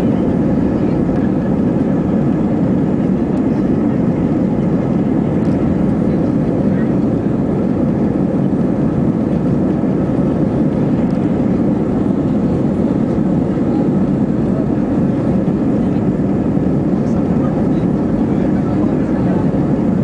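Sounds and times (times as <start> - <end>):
airliner rolling on runway: 0.0 - 20.0
jet engines rumbling: 0.0 - 20.0.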